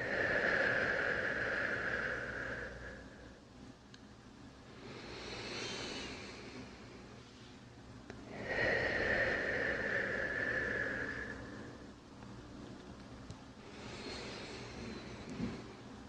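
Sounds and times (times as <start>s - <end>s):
deep human breathing: 0.0s - 3.6s, 4.5s - 12.4s, 13.5s - 16.0s.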